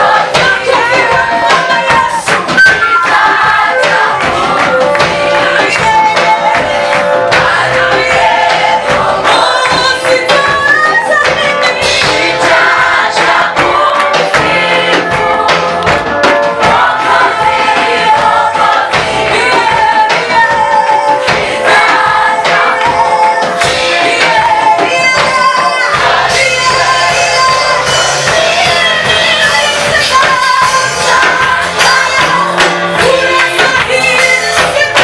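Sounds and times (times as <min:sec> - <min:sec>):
choir singing gospel music: 0:00.0 - 0:35.0
instrumental backing with beat: 0:00.0 - 0:35.0.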